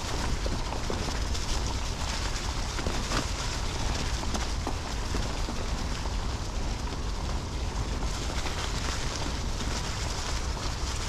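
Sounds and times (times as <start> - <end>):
bike clicks and rattles: 0.0 - 11.0
bike tyres crunching dry leaves: 0.0 - 11.0
wind rumble on microphone: 0.0 - 11.0.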